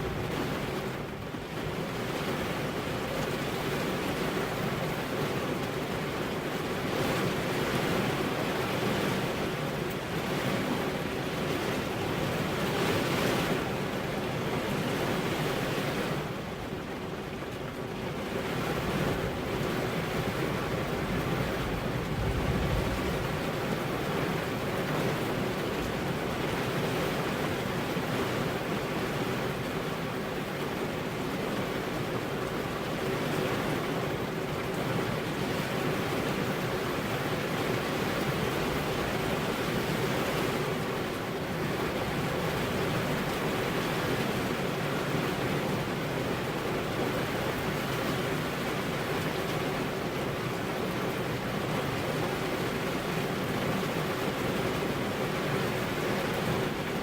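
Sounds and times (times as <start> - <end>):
rain on window glass: 0.0 - 57.0.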